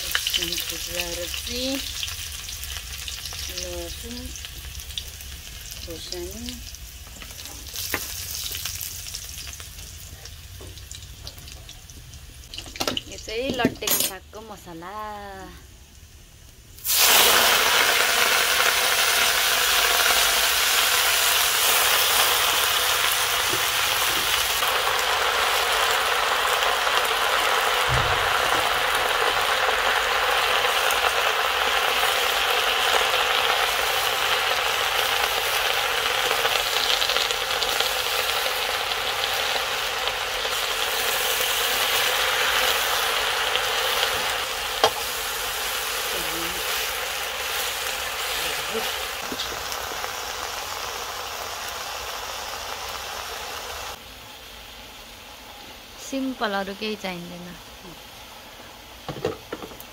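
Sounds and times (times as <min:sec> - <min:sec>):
greens sizzling in hot oil: 0:00.0 - 0:59.9.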